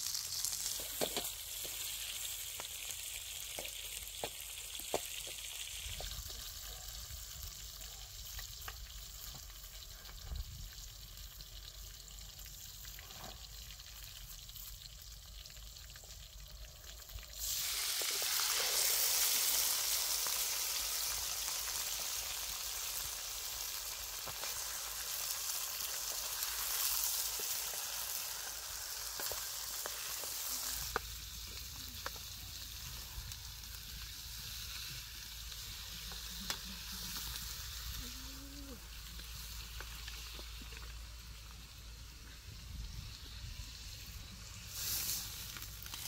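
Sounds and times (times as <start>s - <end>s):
food sizzling in a wok: 0.0s - 46.0s.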